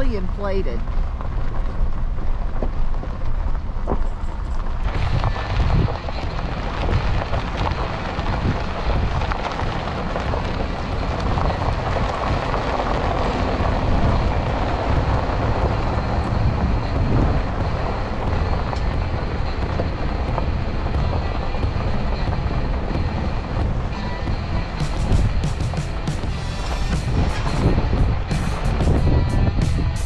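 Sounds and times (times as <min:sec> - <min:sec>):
pickup truck rumble: 0:00.0 - 0:30.0
road and tyre noise: 0:00.0 - 0:30.0
wind on microphone: 0:00.0 - 0:30.0.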